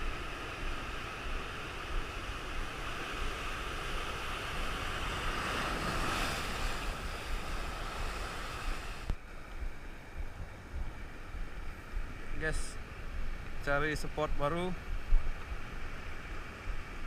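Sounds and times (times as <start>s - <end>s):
waves surging and breaking: 0.0s - 17.0s
wind rumbling on microphone: 0.0s - 17.0s.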